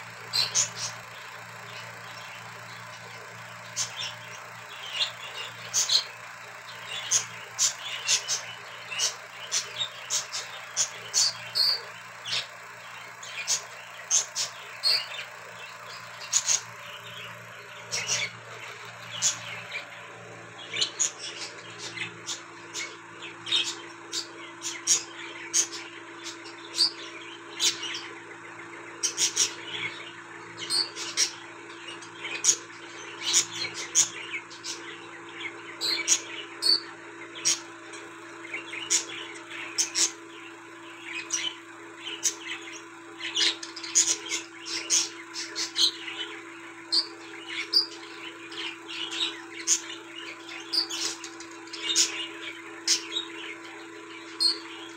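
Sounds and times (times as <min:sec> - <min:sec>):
budgerigars chirping: 0:00.0 - 0:54.9
faint steady hum: 0:00.0 - 0:54.9.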